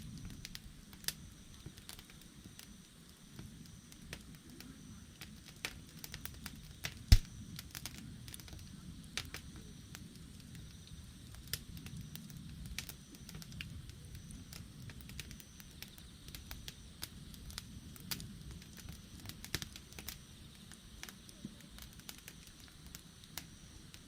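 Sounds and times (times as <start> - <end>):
burning wood crackling and popping: 0.0 - 24.0
low rumble of flames: 0.0 - 24.0.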